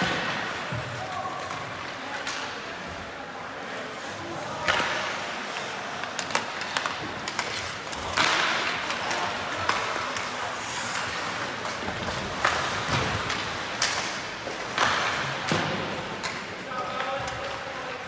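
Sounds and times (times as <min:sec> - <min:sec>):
hockey sticks and puck clacking: 0:00.0 - 0:03.2, 0:03.9 - 0:18.0.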